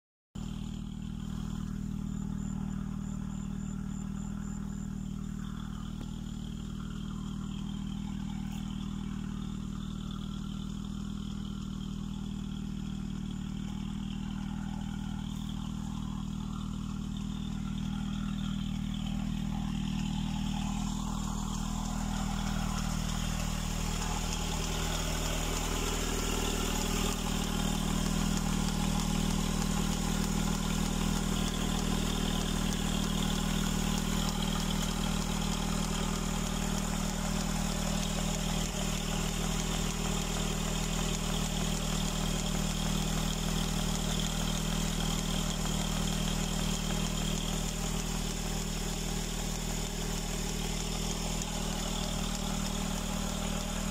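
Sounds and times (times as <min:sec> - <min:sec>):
small engine running steadily: 0:00.3 - 0:53.9.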